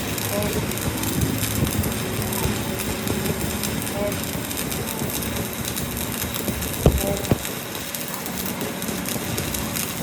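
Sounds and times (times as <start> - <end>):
steady mechanical rumble: 0.0 - 10.0.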